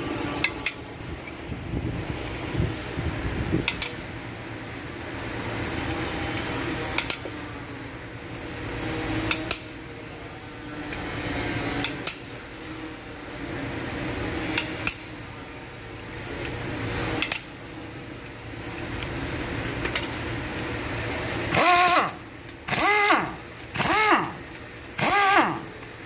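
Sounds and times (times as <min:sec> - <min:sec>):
fan hum: 0:00.0 - 0:26.0.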